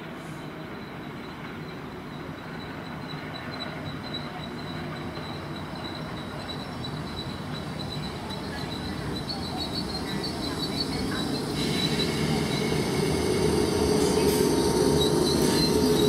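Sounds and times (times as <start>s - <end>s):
electric train arriving: 0.0s - 16.0s
thin high squeal: 2.4s - 16.0s.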